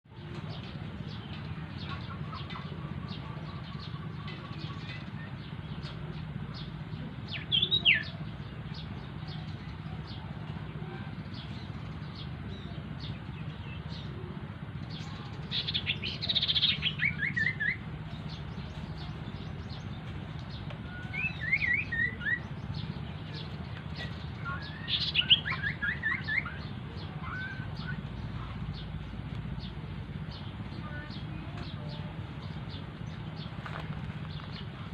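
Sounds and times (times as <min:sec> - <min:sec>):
steady low hum: 0:00.1 - 0:34.9
songbird chirping: 0:00.2 - 0:34.9.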